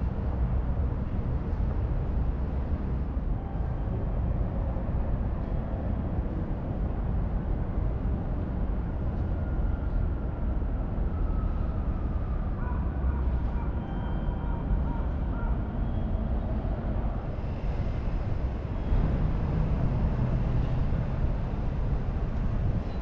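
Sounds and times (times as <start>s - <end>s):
low rumble of passing vehicles: 0.0s - 23.0s.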